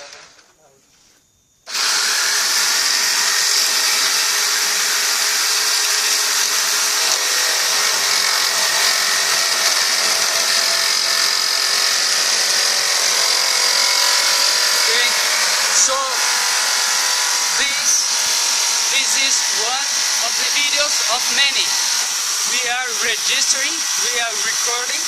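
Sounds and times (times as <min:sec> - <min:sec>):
woodworking machine whine: 0:01.7 - 0:25.0.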